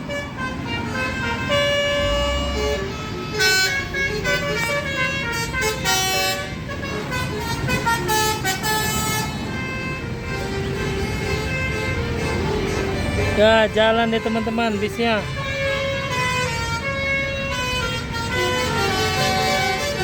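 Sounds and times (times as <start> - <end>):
bus engines running: 0.0 - 20.0
multi-tone air horn tune: 0.0 - 20.0.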